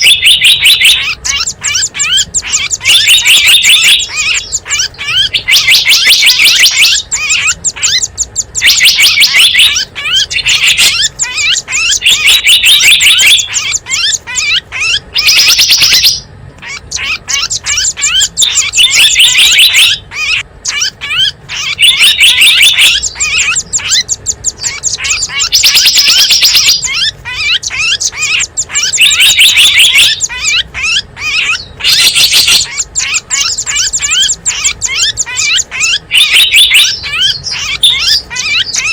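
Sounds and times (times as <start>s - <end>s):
faint bird twittering: 0.0s - 38.9s
songbirds chirping: 0.0s - 38.9s.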